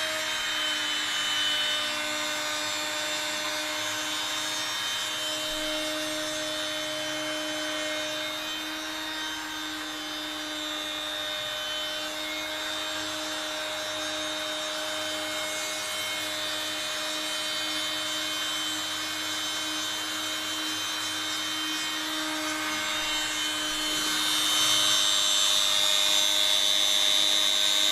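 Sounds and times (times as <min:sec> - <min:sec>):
router cutting wood: 0:00.0 - 0:27.9
spindle motor whine: 0:00.0 - 0:27.9.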